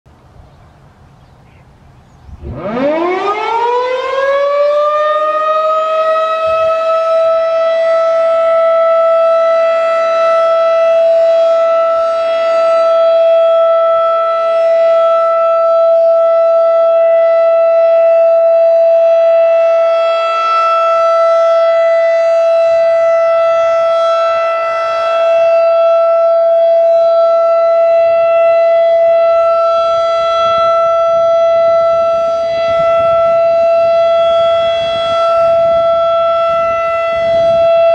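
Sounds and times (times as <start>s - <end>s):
rotating warning siren: 1.7s - 37.9s.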